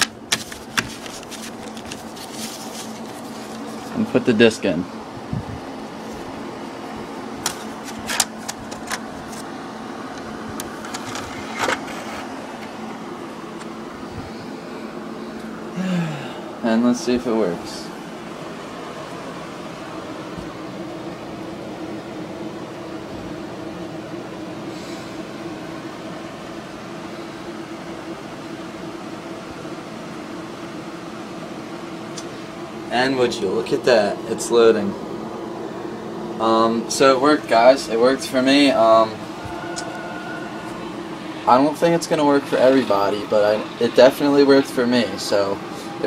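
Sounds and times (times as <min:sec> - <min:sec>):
steady fan hum: 0:00.0 - 0:46.0.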